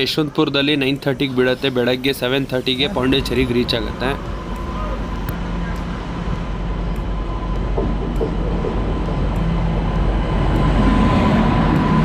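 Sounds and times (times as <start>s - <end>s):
train rumbling into platform: 0.0s - 12.0s.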